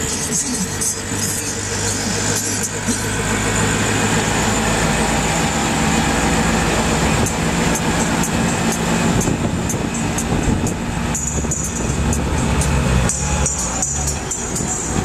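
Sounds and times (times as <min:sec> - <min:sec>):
auto-rickshaw engines humming: 0:00.0 - 0:15.0
road and traffic noise: 0:00.0 - 0:15.0.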